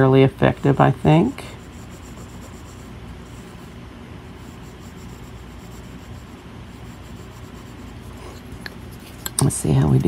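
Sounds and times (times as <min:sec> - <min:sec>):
pencil scratching on paper: 0:01.4 - 0:10.0.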